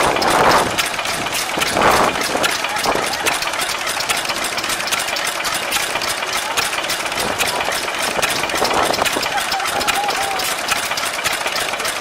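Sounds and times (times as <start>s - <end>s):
stationary engine clattering: 0.0s - 12.0s.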